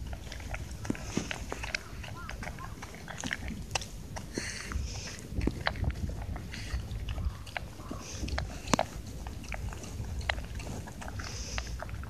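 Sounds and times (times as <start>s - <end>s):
dog crunching kibble: 0.0s - 12.0s.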